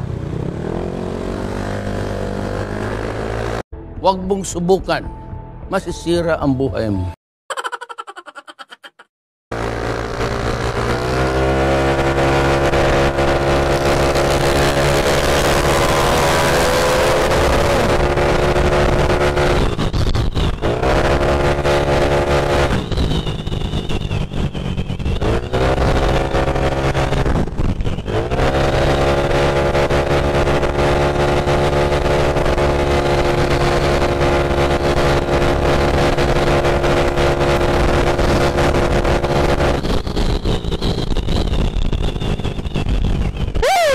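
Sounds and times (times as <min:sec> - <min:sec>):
scooter engine revving high: 0:00.0 - 0:03.6, 0:09.5 - 0:42.7, 0:43.3 - 0:43.9.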